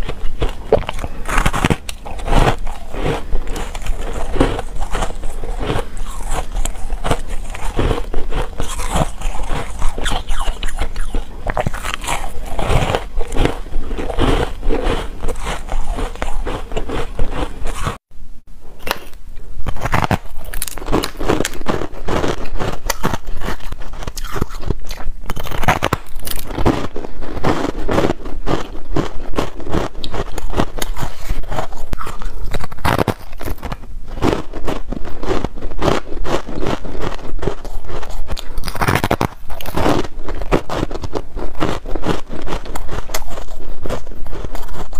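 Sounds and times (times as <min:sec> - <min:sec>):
crunching frozen ice: 0:00.0 - 0:18.0, 0:18.9 - 0:44.9.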